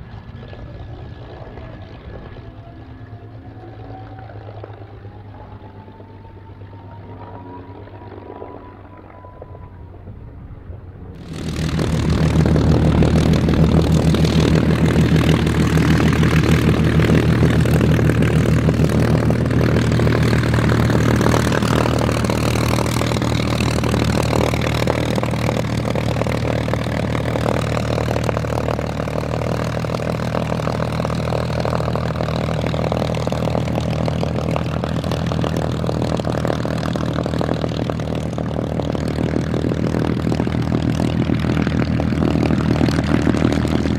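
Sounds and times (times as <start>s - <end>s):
propeller aircraft engine rumble: 0.0s - 43.9s.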